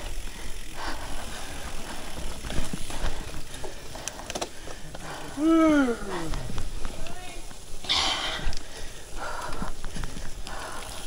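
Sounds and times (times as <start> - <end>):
bike tyres rumbling on dirt: 0.0 - 11.0.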